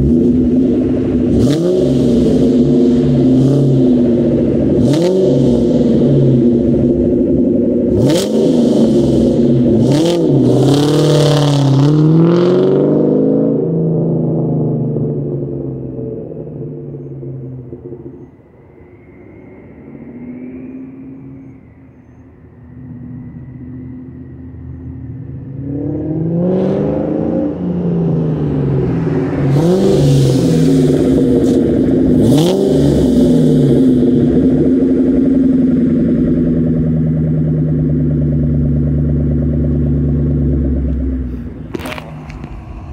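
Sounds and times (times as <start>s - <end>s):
car engine revving and idling: 0.0s - 42.9s.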